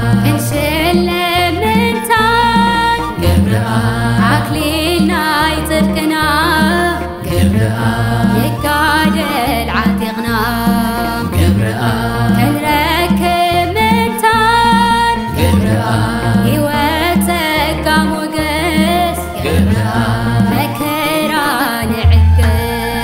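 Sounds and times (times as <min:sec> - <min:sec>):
instrumental backing with bass: 0:00.0 - 0:23.0
woman singing a hymn: 0:00.0 - 0:23.0.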